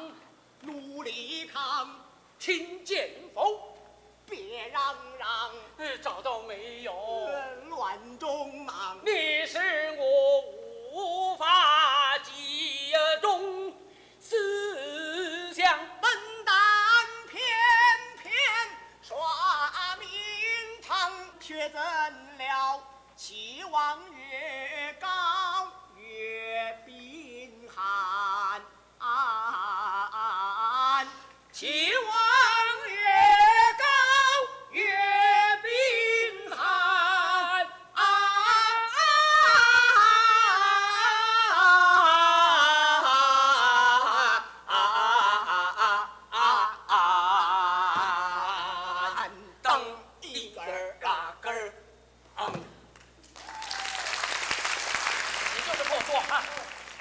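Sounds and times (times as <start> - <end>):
opera singing with heavy vibrato: 0.0 - 52.9.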